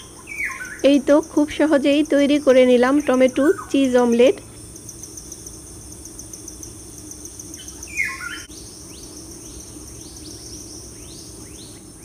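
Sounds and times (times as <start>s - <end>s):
bird chirping: 0.0s - 12.0s
crickets chirping: 0.0s - 12.0s.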